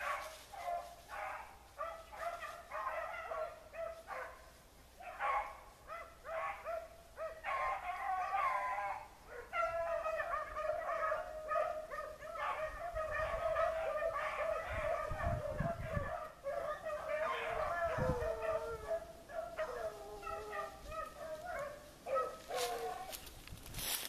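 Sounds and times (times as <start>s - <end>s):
beagles baying: 0.0s - 23.3s.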